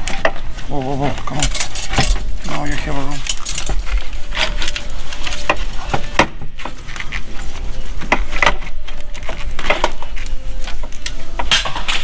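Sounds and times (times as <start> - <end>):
metal clinks and scrapes: 0.0 - 12.0.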